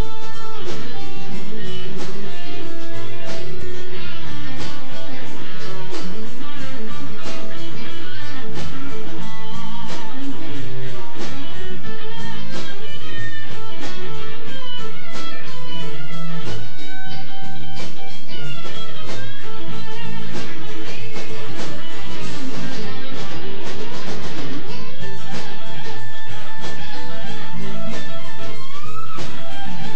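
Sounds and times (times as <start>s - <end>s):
drum strokes: 0.0s - 29.9s
electric guitar: 0.0s - 29.9s
live blues band playing: 0.0s - 29.9s.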